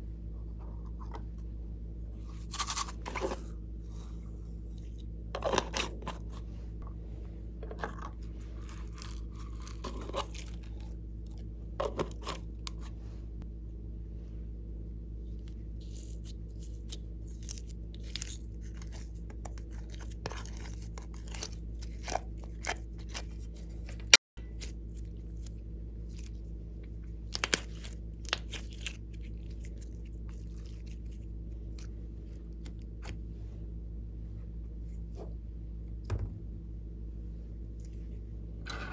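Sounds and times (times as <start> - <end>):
low hum: 0.0 - 38.9.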